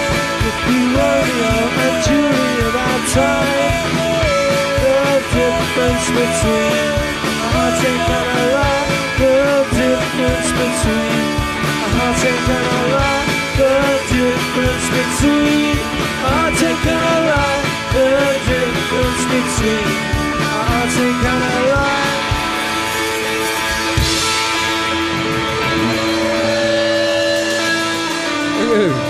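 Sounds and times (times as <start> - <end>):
lead guitar bending notes: 0.0 - 29.0
live rock band playing: 0.0 - 29.0.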